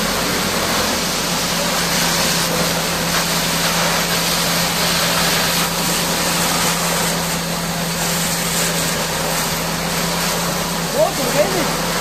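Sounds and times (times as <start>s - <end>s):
engine hum: 0.0s - 12.0s
high-pressure water jet hissing: 0.0s - 12.0s.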